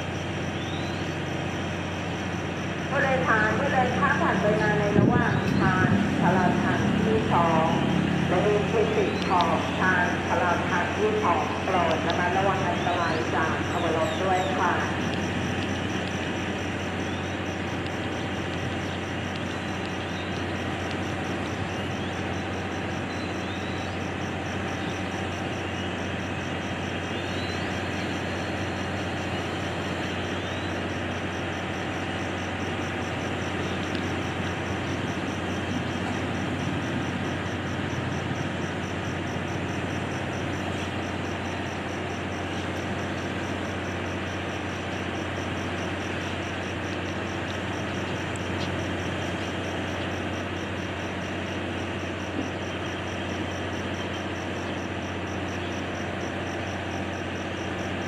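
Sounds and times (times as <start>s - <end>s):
train hum and hiss: 0.0s - 58.0s.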